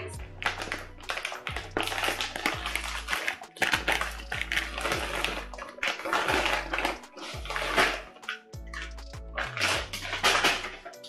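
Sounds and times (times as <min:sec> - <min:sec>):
background music with deep bass: 0:00.0 - 0:11.0
plastic bag crinkling: 0:00.2 - 0:11.0.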